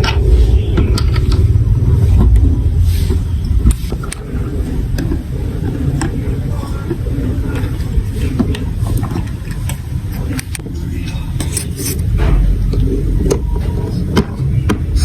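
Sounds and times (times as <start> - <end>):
marbles rolling rumble: 0.0 - 15.0.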